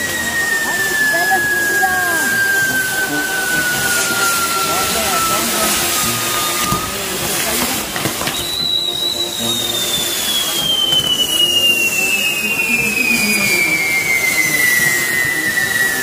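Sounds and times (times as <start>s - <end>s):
falling firework whistle: 0.0s - 16.0s
fireworks sparks hissing and crackling: 0.0s - 16.0s.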